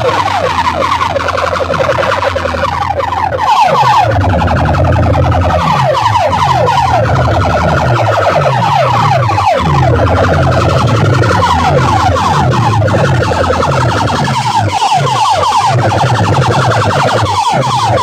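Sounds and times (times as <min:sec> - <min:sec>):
deep bass pulses: 0:00.0 - 0:18.0
falling siren-like sweeps: 0:00.0 - 0:18.0.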